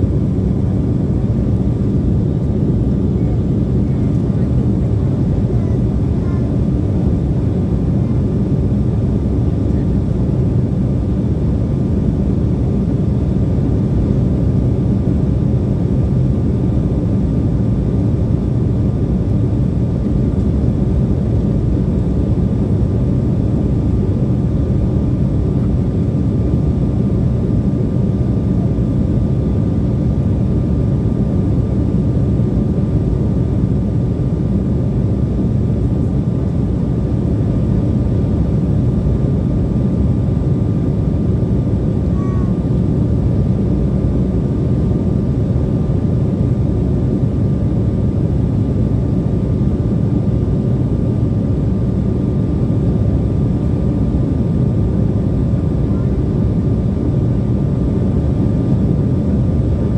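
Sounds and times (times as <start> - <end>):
airliner cabin roar: 0.0 - 59.9
faint steady whine: 0.0 - 59.9.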